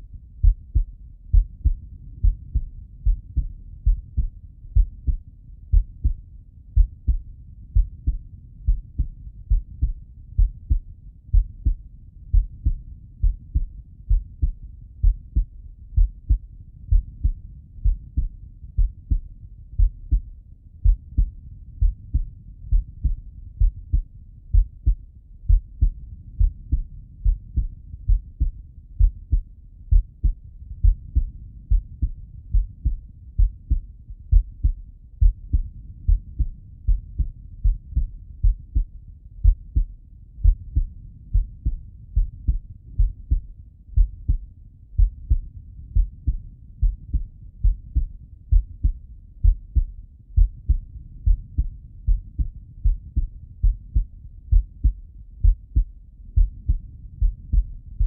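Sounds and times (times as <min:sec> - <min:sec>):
heartbeat through stethoscope: 0:00.0 - 0:58.0.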